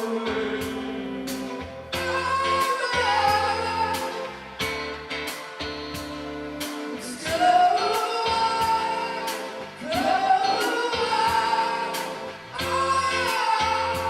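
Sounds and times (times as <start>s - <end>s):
song with singing over a beat: 0.0s - 14.0s.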